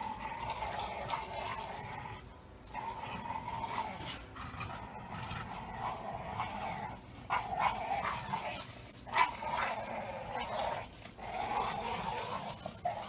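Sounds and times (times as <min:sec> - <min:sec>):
small dogs growling: 0:00.0 - 0:13.0.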